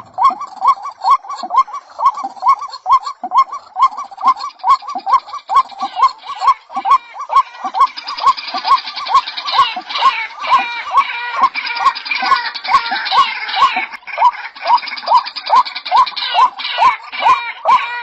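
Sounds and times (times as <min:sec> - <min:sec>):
higher faster bird chattering: 0:00.0 - 0:18.0
waterhen calling: 0:00.0 - 0:18.0.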